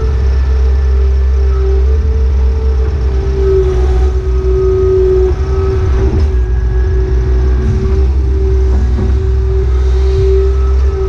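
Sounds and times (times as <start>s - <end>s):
diesel engine rumble: 0.0s - 11.0s
hydraulic whine: 0.0s - 11.0s.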